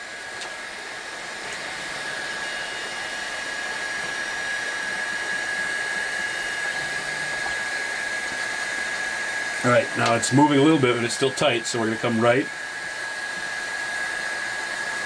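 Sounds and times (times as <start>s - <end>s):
cooling fans whirring: 0.0s - 15.0s
faint higher whine: 0.0s - 15.0s.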